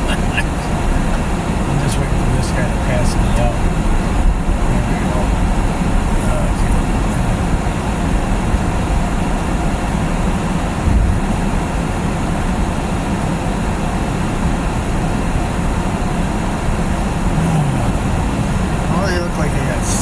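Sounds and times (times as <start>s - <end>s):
road and tyre rumble in car: 0.0s - 20.0s.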